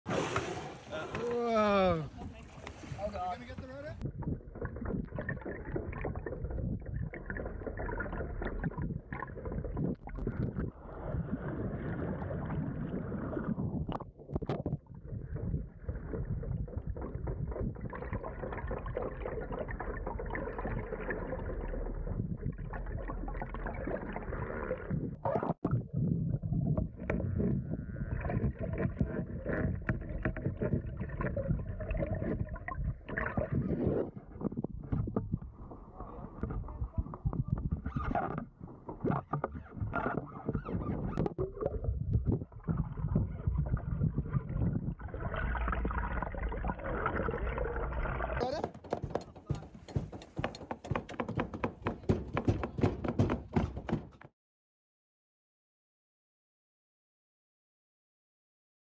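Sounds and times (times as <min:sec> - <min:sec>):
muffled rush of water: 0:00.1 - 0:25.1, 0:25.7 - 0:50.0.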